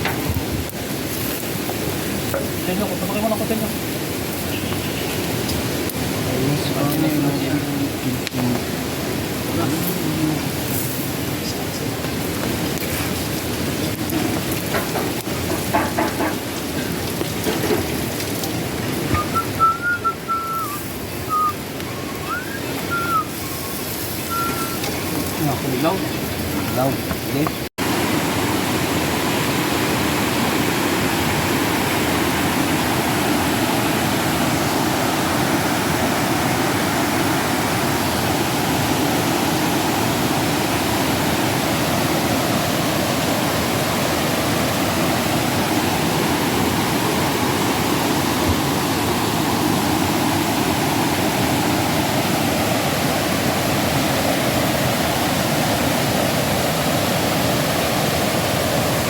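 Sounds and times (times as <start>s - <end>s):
river water rushing: 0.0s - 26.8s, 27.6s - 59.0s.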